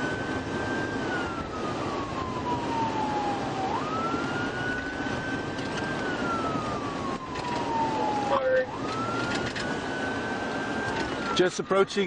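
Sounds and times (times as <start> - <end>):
car road and engine noise: 0.0 - 12.0
police siren wailing: 0.0 - 12.0.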